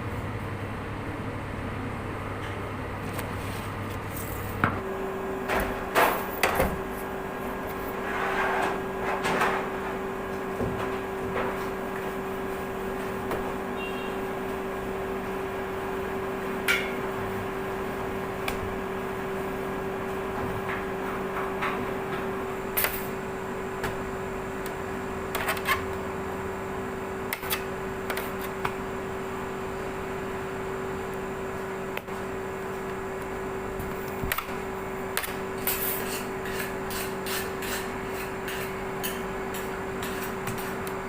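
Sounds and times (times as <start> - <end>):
machine hum: 0.0 - 36.0.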